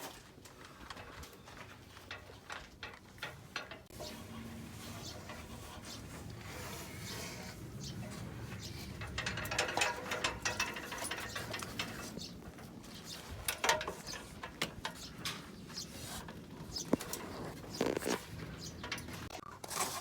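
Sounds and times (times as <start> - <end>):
hand tools clicking and clattering: 0.0 - 20.0.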